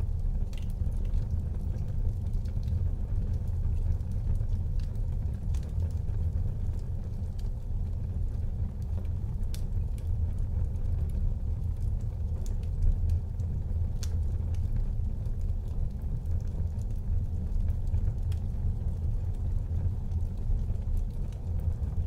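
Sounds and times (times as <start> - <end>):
fire crackles and pops: 0.0 - 22.0
fire flames rumbling: 0.0 - 22.0.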